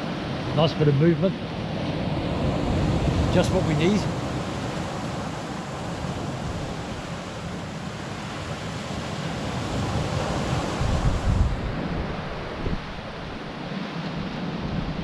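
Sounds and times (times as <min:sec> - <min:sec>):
surf washing up pebble beach: 0:00.0 - 0:15.0
wind rumbling on microphone: 0:01.6 - 0:15.0.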